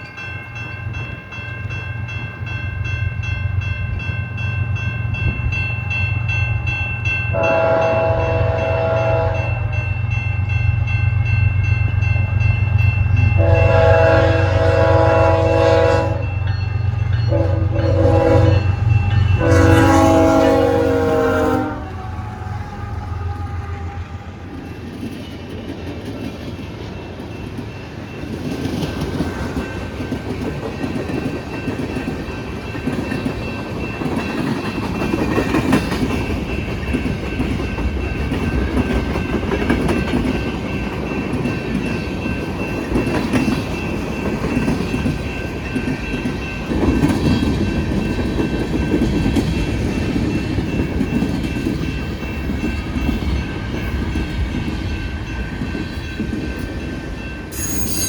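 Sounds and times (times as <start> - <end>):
heavy train rumble: 0.0 - 58.0.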